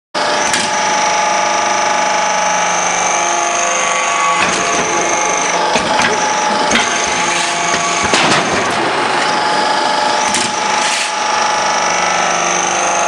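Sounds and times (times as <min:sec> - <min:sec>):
hydraulic press motor whining: 0:00.2 - 0:13.0.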